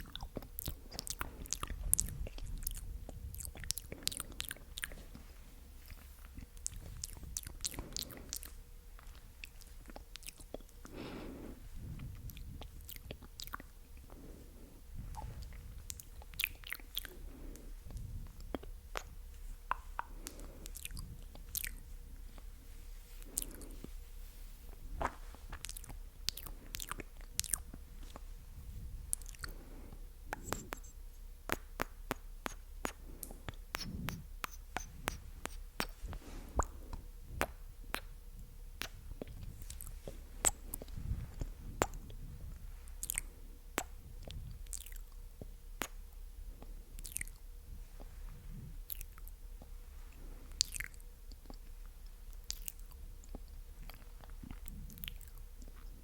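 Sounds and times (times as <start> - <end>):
wet lip and tongue clicks: 0.0 - 5.0, 5.8 - 11.0, 12.0 - 14.2, 15.1 - 17.2, 17.9 - 21.8, 25.0 - 28.3, 29.1 - 29.6, 30.3 - 42.2, 43.0 - 48.2, 48.9 - 49.8, 50.6 - 55.9.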